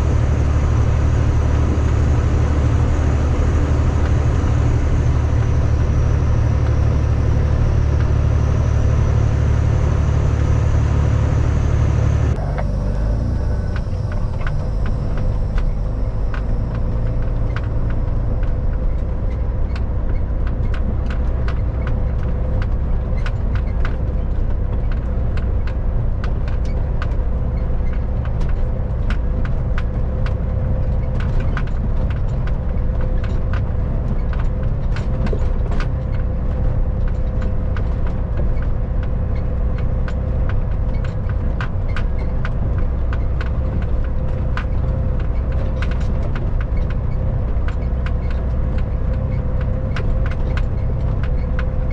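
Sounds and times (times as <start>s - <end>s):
truck engine and road drone: 0.0s - 51.9s.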